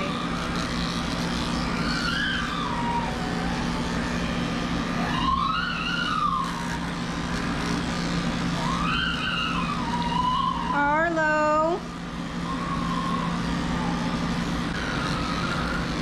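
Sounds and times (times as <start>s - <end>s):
electric clippers humming: 0.0s - 16.0s
high whines: 0.0s - 16.0s.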